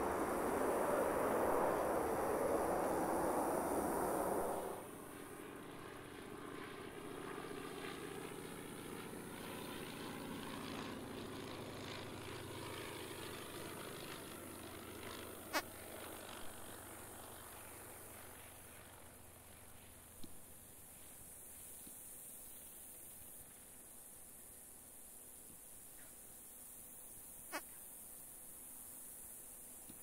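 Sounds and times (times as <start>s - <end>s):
propeller plane engine droning: 0.0s - 27.5s.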